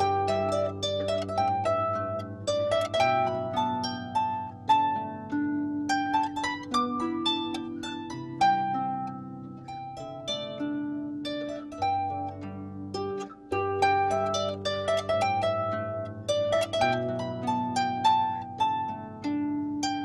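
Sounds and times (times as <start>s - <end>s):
harp melody: 0.0s - 20.0s.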